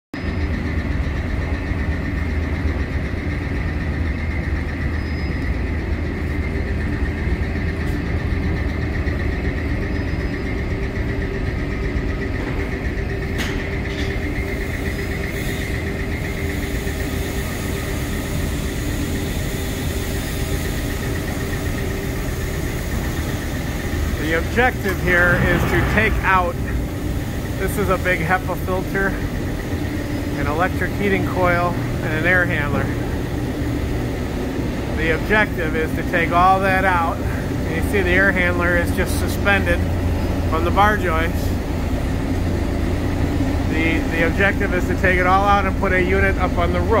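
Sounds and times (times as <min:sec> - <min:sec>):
ventilation machinery hum: 0:00.2 - 0:47.0
constant whine: 0:00.3 - 0:47.0.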